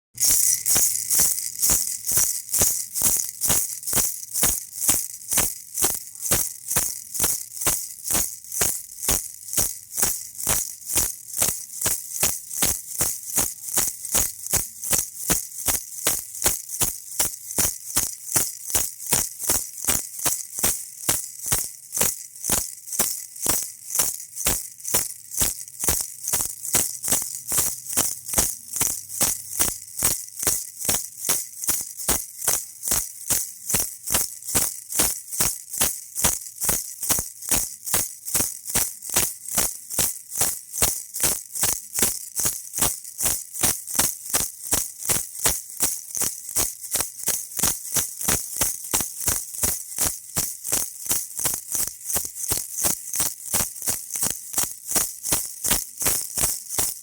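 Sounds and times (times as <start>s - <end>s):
baby rattle shaken: 0.2s - 57.0s.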